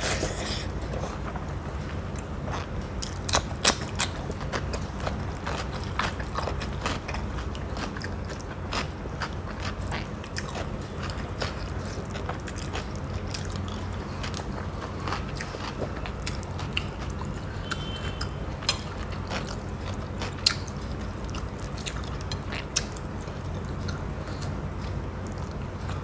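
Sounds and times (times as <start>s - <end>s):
steady low hum: 0.0s - 26.0s
person chewing with mouth clicks: 2.1s - 26.0s.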